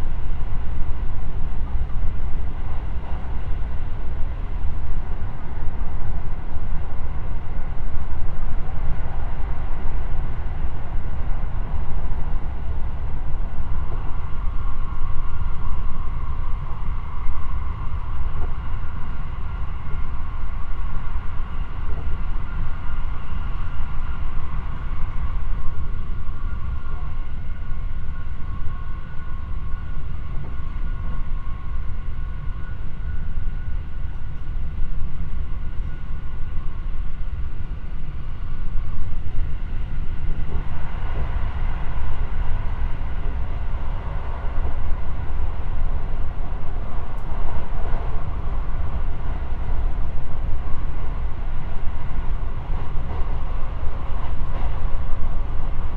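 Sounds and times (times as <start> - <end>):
thin steady whines: 0.0 - 55.9
train wheels rumbling on rail: 0.0 - 55.9.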